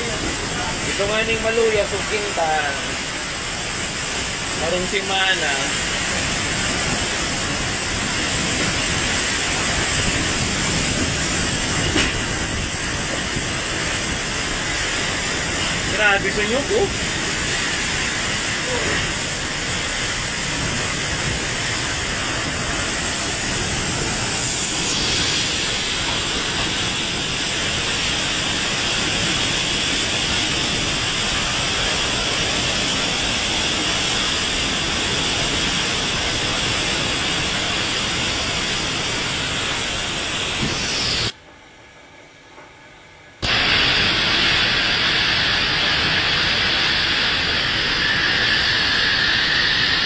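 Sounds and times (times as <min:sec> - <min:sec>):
heavy rain: 0:00.0 - 0:41.3, 0:43.4 - 0:50.0
storm wind: 0:00.0 - 0:41.4, 0:43.4 - 0:50.0.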